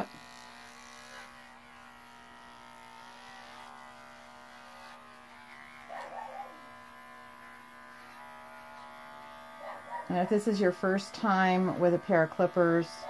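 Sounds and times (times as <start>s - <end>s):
pet clipper buzzing: 0.0s - 13.0s.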